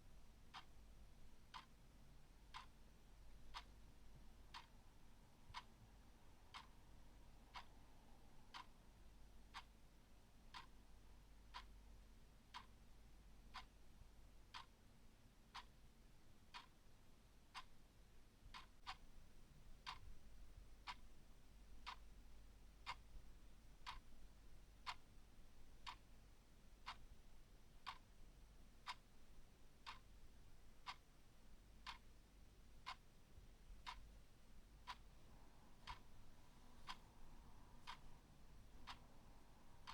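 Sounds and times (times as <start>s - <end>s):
clock ticking: 0.5s - 1.9s, 2.5s - 7.9s, 8.5s - 9.8s, 10.4s - 13.8s, 14.4s - 14.9s, 15.5s - 15.8s, 16.5s - 16.8s, 17.5s - 17.8s, 18.5s - 39.9s.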